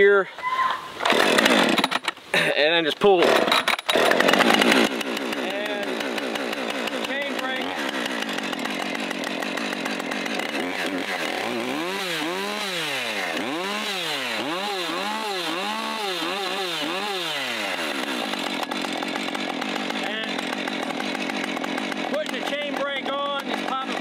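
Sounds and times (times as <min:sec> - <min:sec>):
chainsaw idling and revving: 0:01.0 - 0:24.0.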